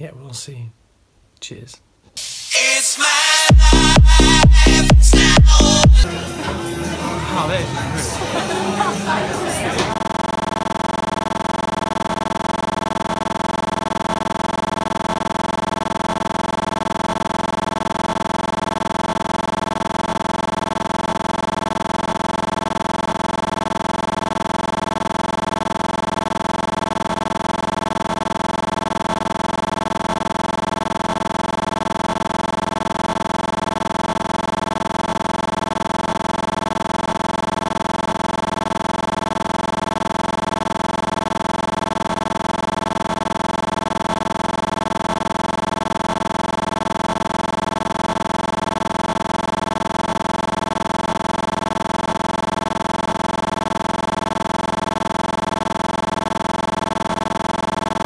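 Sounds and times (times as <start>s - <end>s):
steady electronic buzz: 2.2s - 58.0s.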